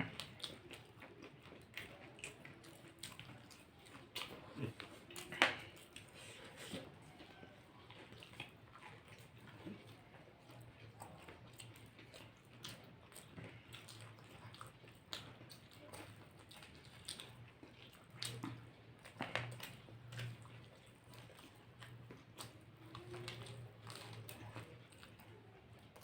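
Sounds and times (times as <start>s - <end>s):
faint low hum: 0.0s - 26.0s
people chewing crunchy snacks: 0.0s - 26.0s.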